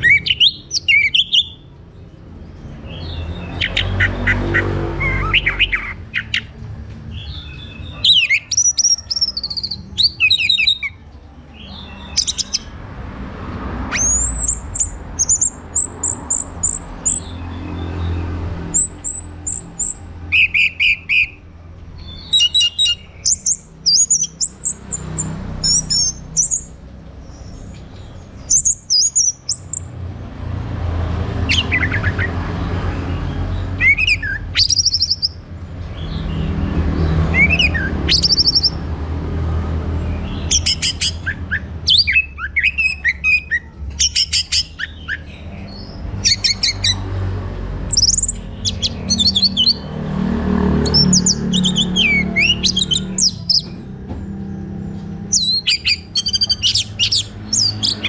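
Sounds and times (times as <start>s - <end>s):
bird singing: 0.0s - 12.9s, 13.6s - 30.1s, 31.0s - 39.0s, 39.9s - 58.0s.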